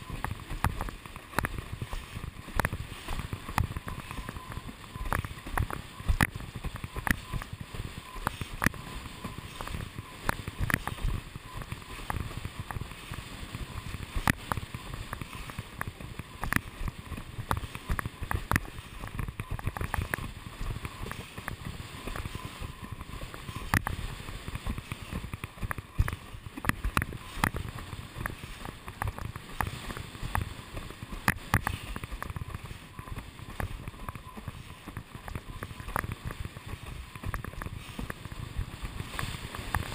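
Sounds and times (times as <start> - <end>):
board slapping water: 0.0 - 39.9
rush of wind and water: 0.0 - 39.9.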